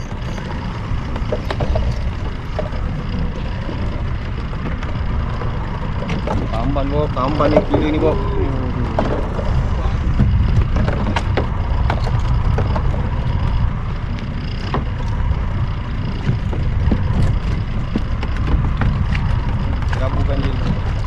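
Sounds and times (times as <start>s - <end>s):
water lapping against boat hull: 0.0s - 21.0s
wind buffeting microphone: 0.0s - 21.0s.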